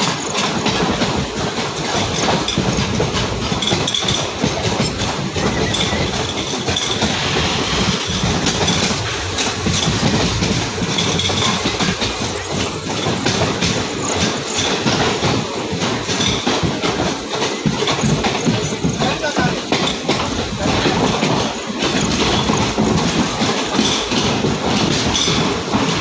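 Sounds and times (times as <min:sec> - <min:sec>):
clicks and knocks from track: 0:00.0 - 0:26.0
train wheels rumbling on rail: 0:00.0 - 0:26.0.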